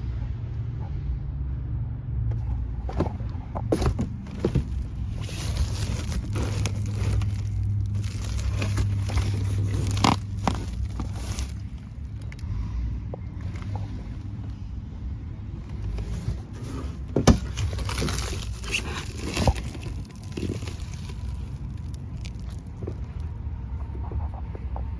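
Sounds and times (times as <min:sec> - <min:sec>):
vehicle engine humming: 0:02.3 - 0:24.9.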